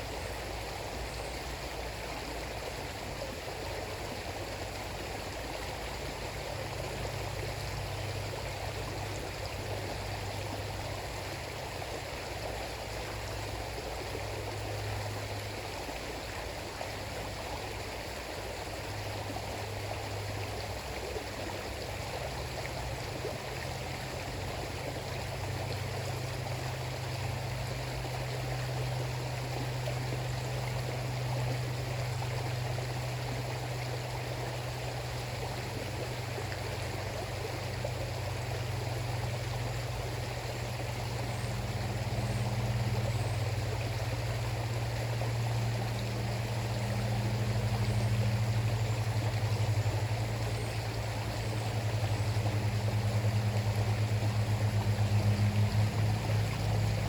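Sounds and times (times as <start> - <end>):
low water rumble: 0.0 - 57.0
river water rushing: 0.0 - 57.0.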